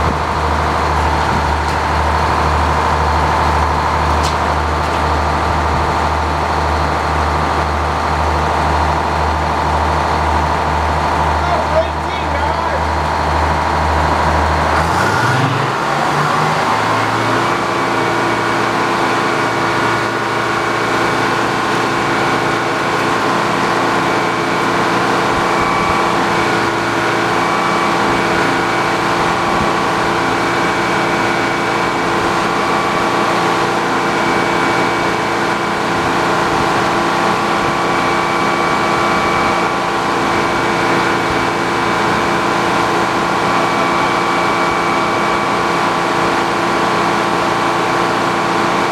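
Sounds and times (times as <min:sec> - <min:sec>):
sawmill saw running: 0:00.0 - 0:48.9.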